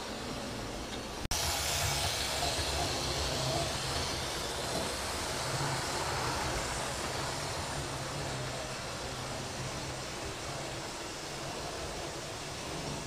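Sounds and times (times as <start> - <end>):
model train motors whirring: 0.2 - 13.0.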